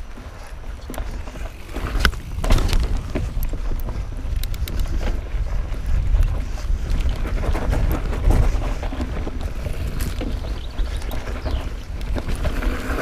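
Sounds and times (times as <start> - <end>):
bike clicks and rattles: 0.0 - 13.0
tyre noise: 0.0 - 13.0
wind buffeting microphone: 0.0 - 13.0.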